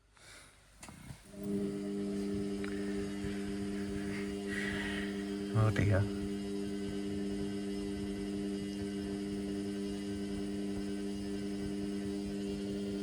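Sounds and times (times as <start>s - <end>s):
washing machine humming: 1.2s - 13.0s.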